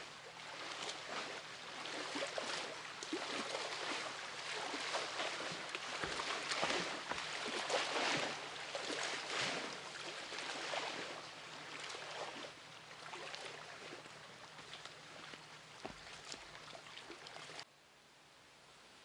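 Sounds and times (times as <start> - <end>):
water splashing and gurgling: 0.0 - 17.7.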